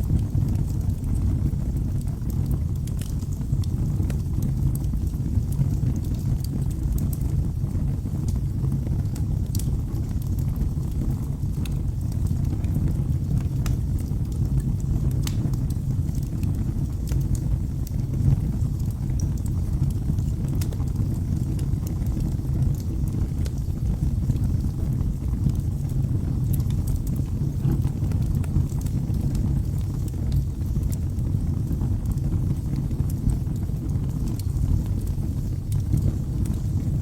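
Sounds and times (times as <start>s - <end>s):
burning wood crackling and popping: 0.0s - 37.0s
fire flames rumbling: 0.0s - 37.0s.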